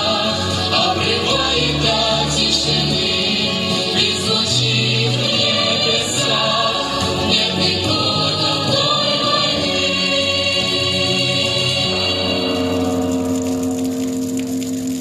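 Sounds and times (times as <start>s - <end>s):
vocal group singing: 0.0s - 12.8s
musical accompaniment: 0.0s - 15.0s.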